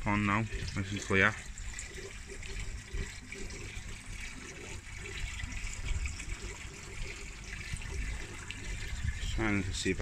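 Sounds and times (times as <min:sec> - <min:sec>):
pond water bubbling and splashing: 0:00.0 - 0:10.0.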